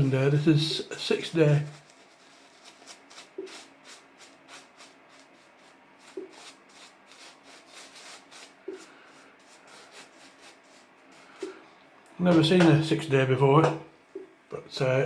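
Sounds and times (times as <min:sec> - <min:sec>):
faint rubbing strokes: 0:00.0 - 0:12.4.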